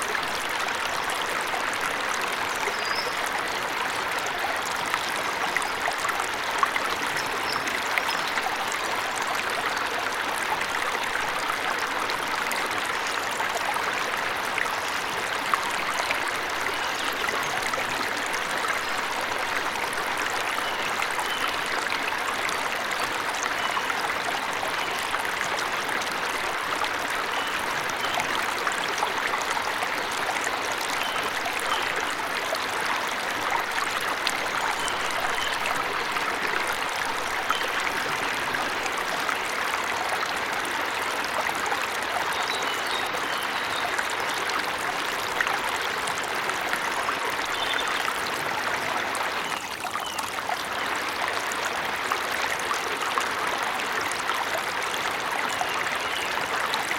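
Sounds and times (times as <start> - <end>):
waterfall and stream running: 0.0 - 56.9.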